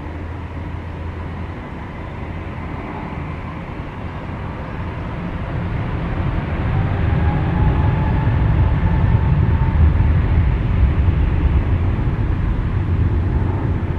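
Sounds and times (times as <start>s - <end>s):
jet engines rumbling with whine: 0.0s - 13.9s.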